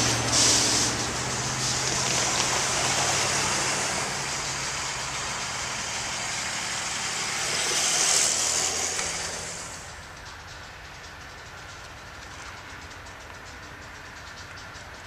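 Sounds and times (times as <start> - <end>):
pickup truck passing: 0.0 - 14.4
low steady engine drone: 0.0 - 15.0
vehicles crossing railroad crossing: 0.0 - 15.0.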